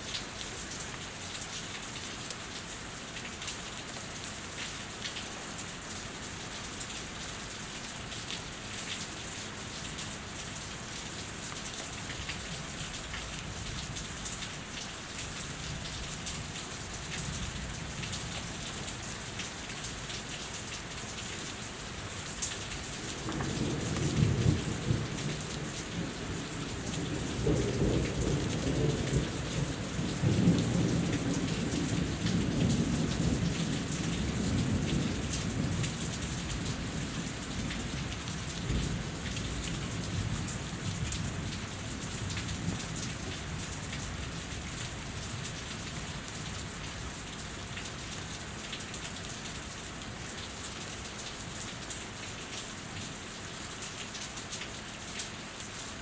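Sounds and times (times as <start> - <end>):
rain falling and dripping: 0.0 - 56.0.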